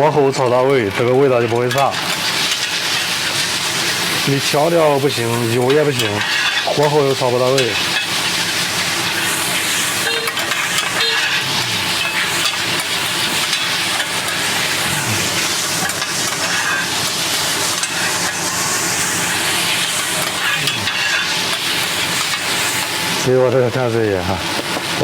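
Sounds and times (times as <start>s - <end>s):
noodles sizzling on hot plate: 0.0s - 25.0s
spatula scraping metal: 1.7s - 22.8s.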